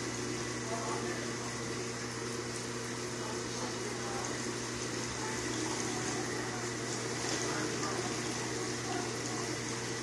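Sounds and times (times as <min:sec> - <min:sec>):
aquarium pump hum: 0:00.0 - 0:10.0.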